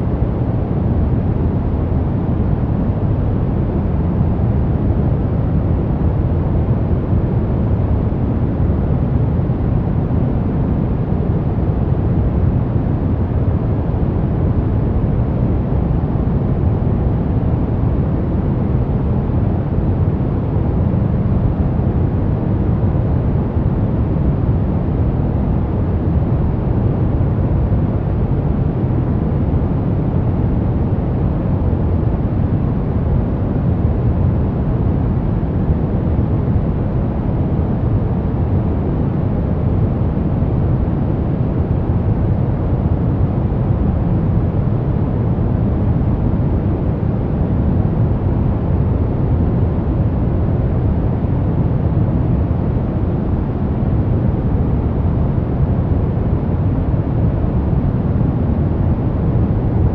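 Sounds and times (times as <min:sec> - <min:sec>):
deep white noise: 0:00.0 - 0:59.9.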